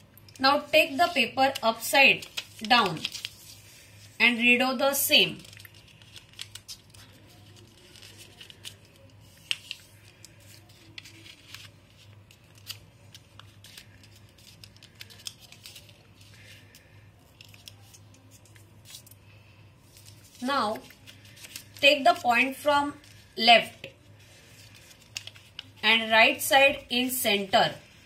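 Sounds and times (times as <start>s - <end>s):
paper folding and creasing: 0.2s - 4.2s, 5.2s - 19.2s, 19.8s - 25.8s.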